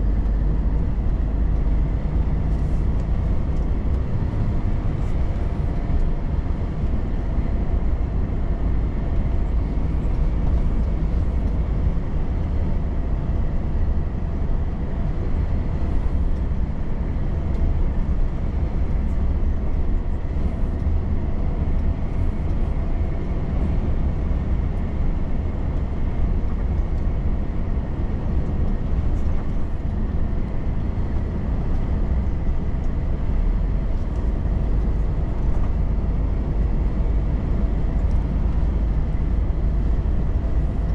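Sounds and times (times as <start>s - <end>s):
road rumble: 0.0s - 40.9s
truck engine drone: 0.0s - 40.9s.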